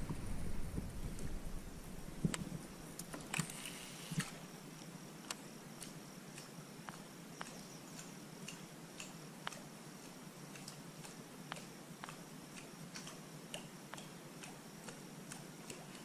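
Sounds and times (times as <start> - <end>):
faint high-pitched hum: 0.0 - 16.0.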